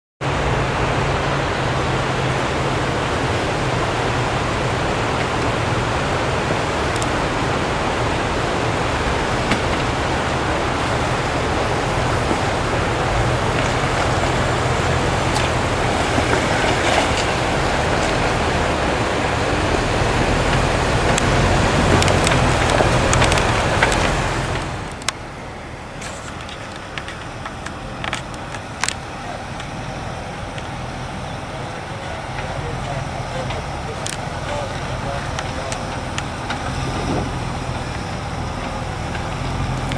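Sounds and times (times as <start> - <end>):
car engine running low: 0.2 - 39.9
loud even hiss: 0.2 - 39.9.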